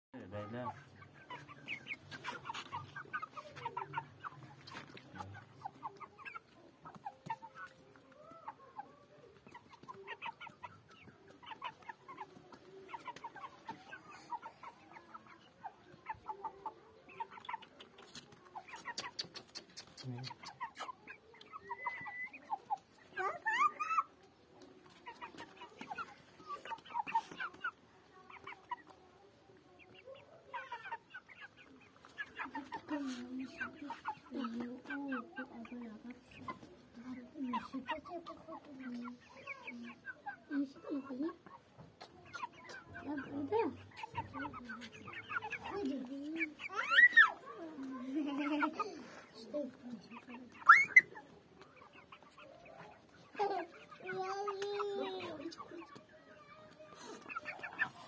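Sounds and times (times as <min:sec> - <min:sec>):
chickens clucking: 0:00.2 - 0:58.0.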